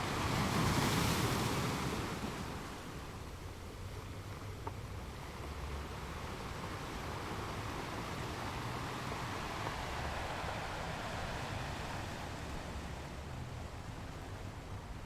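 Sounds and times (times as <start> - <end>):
sea waves washing ashore: 0.0 - 3.3, 5.7 - 15.0.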